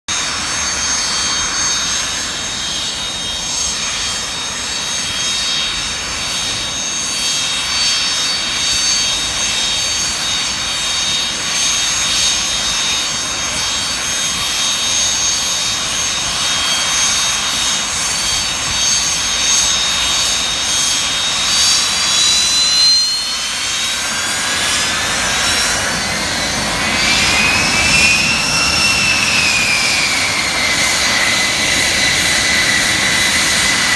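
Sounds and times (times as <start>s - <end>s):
jet engine roar: 0.1s - 33.9s
high whining tones: 0.3s - 33.9s.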